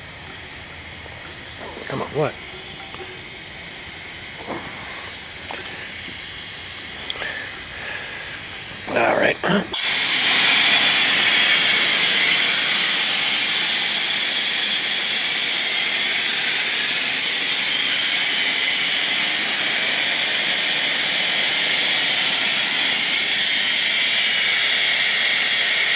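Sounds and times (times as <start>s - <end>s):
compressed air hissing from valve: 0.0s - 25.9s.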